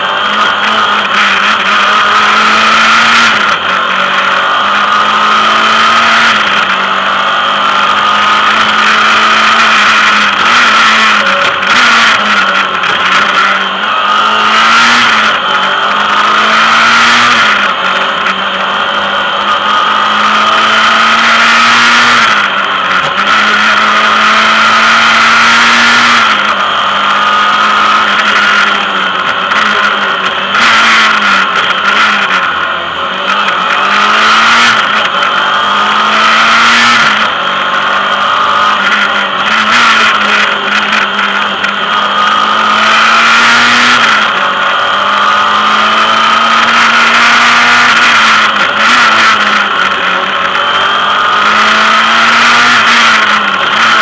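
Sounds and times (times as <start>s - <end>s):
car engine revving: 0.0s - 54.0s
wind and road noise: 0.0s - 54.0s.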